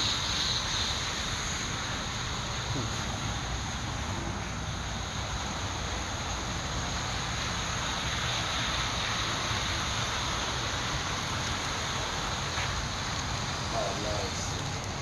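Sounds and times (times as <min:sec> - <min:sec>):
model trains rolling on track: 0:00.0 - 0:15.0.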